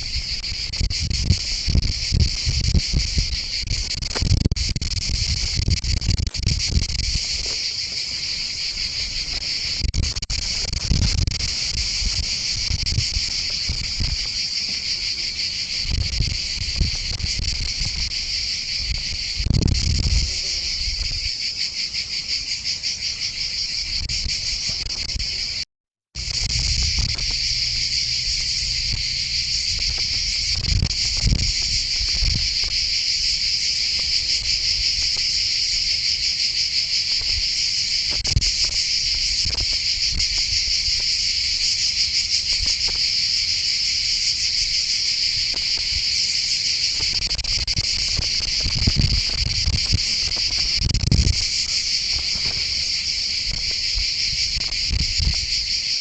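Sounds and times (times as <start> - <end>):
high-pitched insect chorus: 0.0 - 25.6, 26.2 - 56.0.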